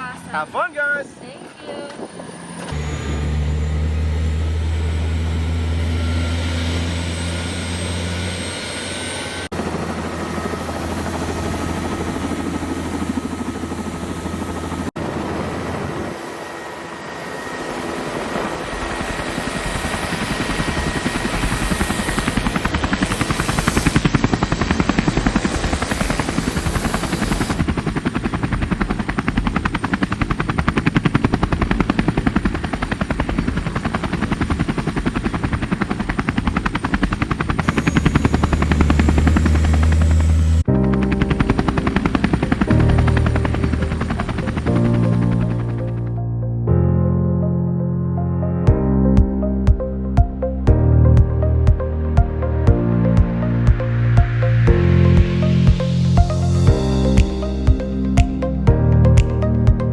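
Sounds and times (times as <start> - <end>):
helicopter rotor chop: 0.0 - 46.2, 52.7 - 59.9
helicopter low drone: 0.0 - 59.9.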